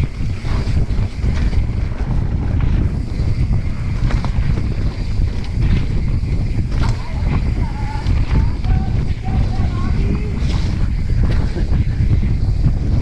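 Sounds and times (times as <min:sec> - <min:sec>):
bike clicks and knocks: 0:00.0 - 0:13.0
wind buffeting microphone: 0:00.0 - 0:13.0.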